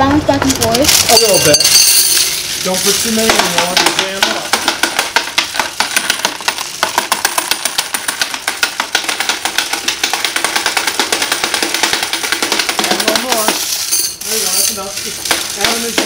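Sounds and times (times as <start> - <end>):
coins clattering through counter: 0.4 - 16.0.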